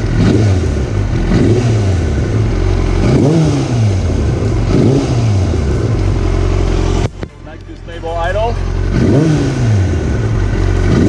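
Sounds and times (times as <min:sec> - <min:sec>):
motorcycle engine throttle blips: 0:00.0 - 0:11.0.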